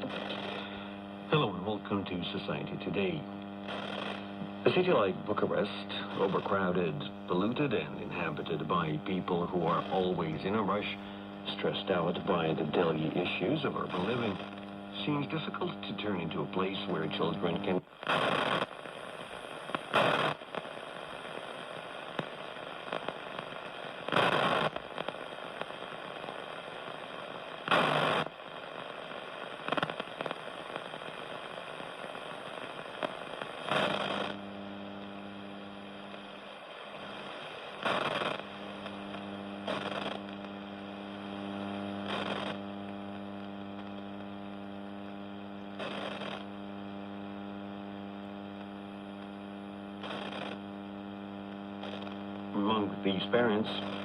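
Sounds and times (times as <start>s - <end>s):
buzzing hum with overtones: 0.0s - 54.0s
radio crackling bursts: 0.0s - 54.0s
radio hiss and static: 0.0s - 54.0s.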